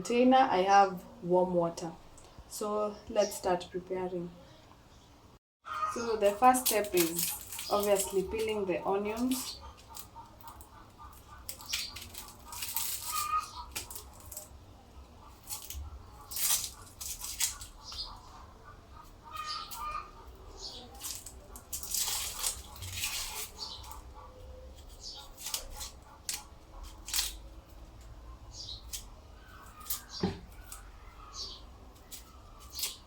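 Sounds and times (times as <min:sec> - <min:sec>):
dry onion skins crackling: 0:05.8 - 0:33.0.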